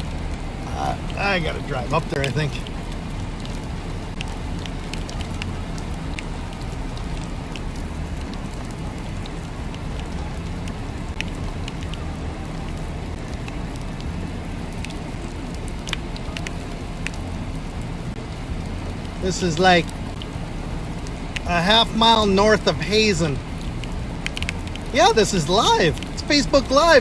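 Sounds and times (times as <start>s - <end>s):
rain falling: 0.0s - 27.0s
raindrops ticking: 0.0s - 27.0s
steady low rumble: 0.0s - 27.0s.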